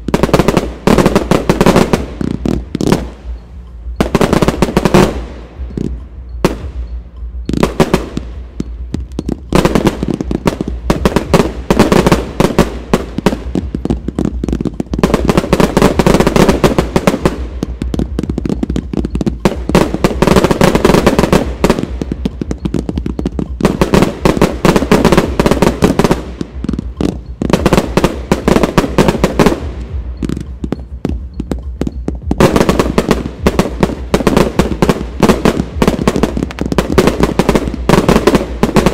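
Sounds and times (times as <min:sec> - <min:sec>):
fireworks launching and bursting: 0:00.0 - 0:38.9.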